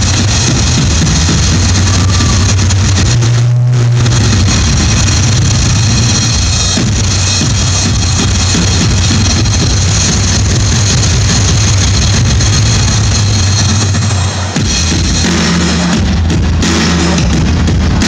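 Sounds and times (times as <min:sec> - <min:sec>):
loud stage music with bass: 0:00.0 - 0:18.0.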